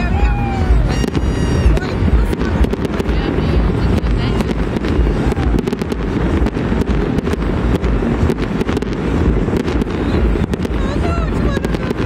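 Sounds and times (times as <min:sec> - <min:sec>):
fireworks bangs and crackles: 0:00.0 - 0:12.0
wind rumble on microphone: 0:00.0 - 0:12.0.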